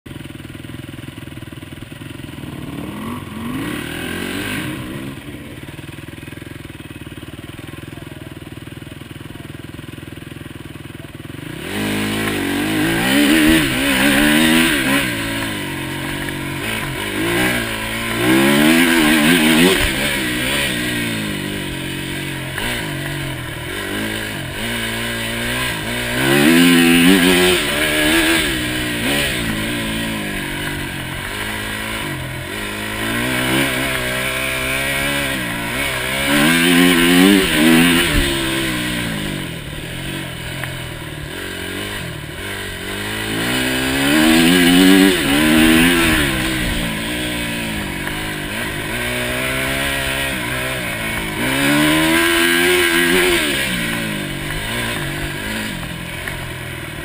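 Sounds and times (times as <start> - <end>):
motorcycle engine revving: 0.1 - 57.0.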